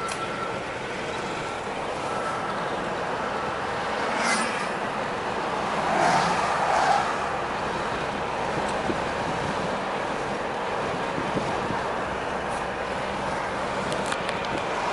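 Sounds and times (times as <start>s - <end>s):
road and engine noise: 0.0s - 14.9s.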